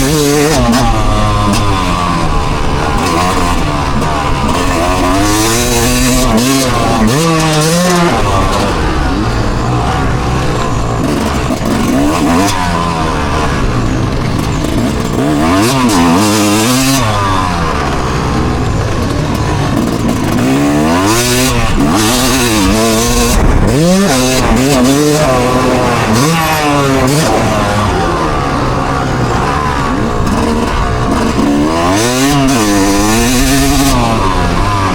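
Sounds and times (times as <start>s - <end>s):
engine revving: 0.0s - 34.9s.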